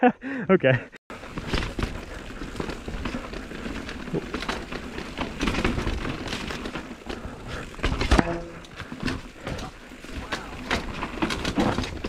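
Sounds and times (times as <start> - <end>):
bike knocking and clattering: 1.1 - 12.0
bike tyres rolling on dirt: 1.1 - 12.0.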